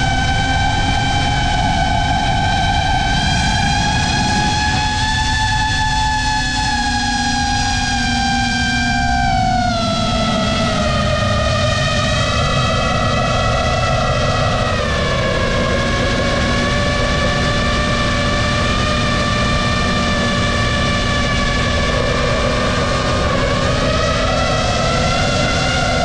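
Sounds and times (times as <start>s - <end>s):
drone motors whining: 0.0s - 26.0s
rushing noise: 0.0s - 26.0s.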